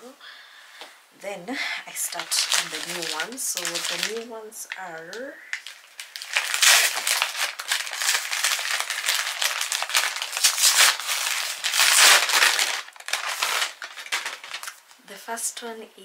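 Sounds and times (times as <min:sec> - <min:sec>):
packaging crinkling: 0:01.9 - 0:15.0.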